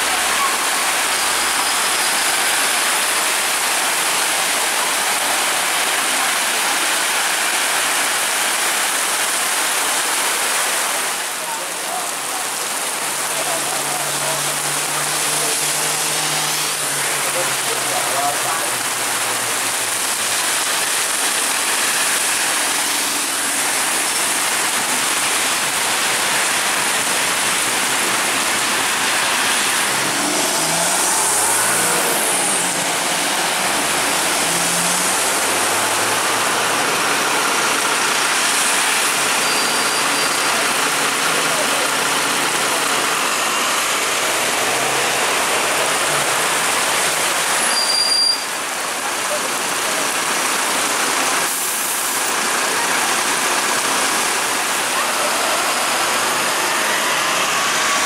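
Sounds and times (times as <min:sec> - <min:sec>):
bus engine: 0:00.0 - 0:58.0
heavy rain on road: 0:00.0 - 0:58.0
tyres on wet tarmac: 0:00.0 - 0:58.0.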